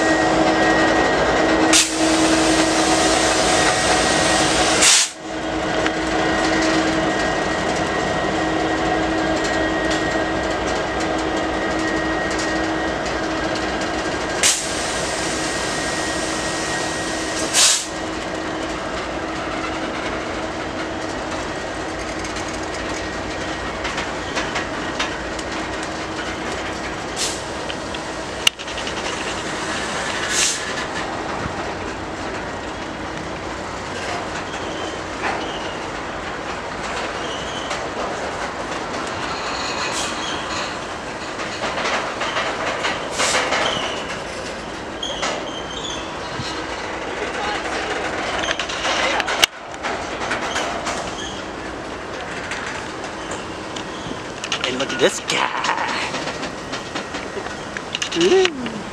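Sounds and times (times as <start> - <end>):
train rumble and hiss: 0.0 - 58.9.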